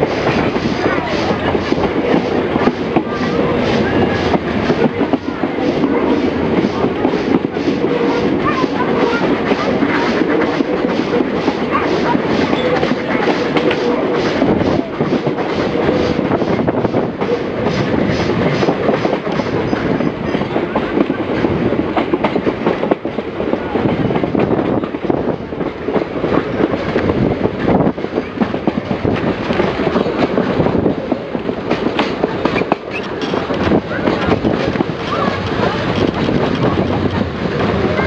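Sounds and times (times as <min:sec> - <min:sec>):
train rumble: 0:00.0 - 0:38.0
wheels clacking over rail joints: 0:00.0 - 0:38.0.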